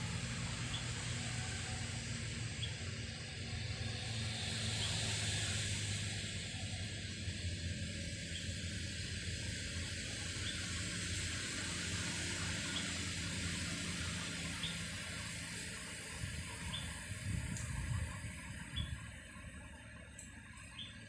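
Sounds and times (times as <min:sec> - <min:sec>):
low hum: 0:00.0 - 0:21.0
steady high hiss: 0:00.0 - 0:21.0.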